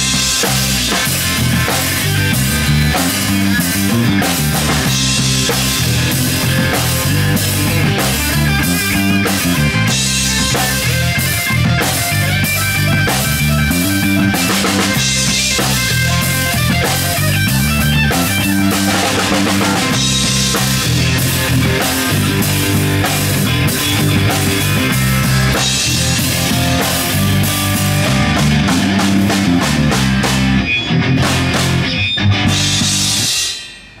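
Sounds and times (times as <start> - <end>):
bass guitar: 0.0 - 33.8
drum kit: 0.0 - 34.0
electric guitar: 0.0 - 34.0.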